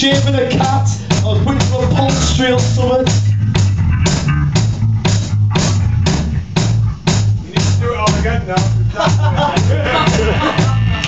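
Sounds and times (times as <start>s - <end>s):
bass guitar: 0.0s - 11.0s
drum kit beat: 0.0s - 11.0s.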